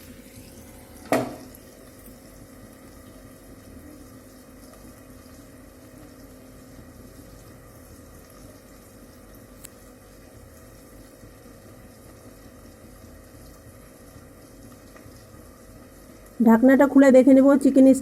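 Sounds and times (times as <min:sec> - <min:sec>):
chicken sizzling on a pan: 0:00.0 - 0:18.0.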